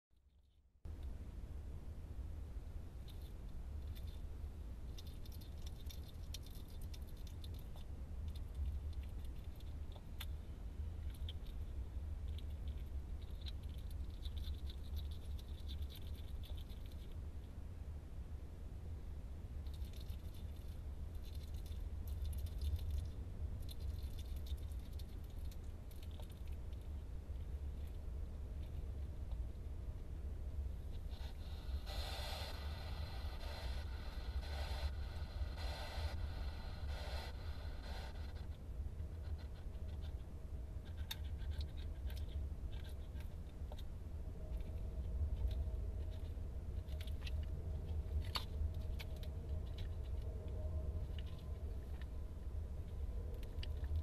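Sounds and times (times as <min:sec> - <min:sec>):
steady low hum: 0:00.1 - 0:54.0
hedgehog scratching and clicking: 0:03.0 - 0:04.2, 0:04.9 - 0:10.4, 0:11.0 - 0:17.6, 0:19.6 - 0:29.6, 0:30.9 - 0:52.2.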